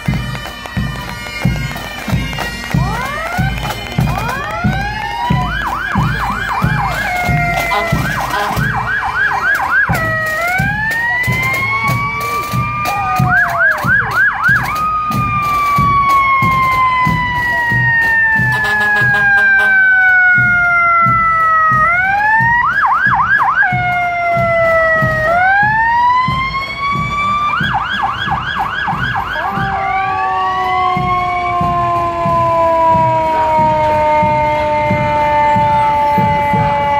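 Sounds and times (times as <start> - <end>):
emergency sirens wailing: 0.0 - 36.9.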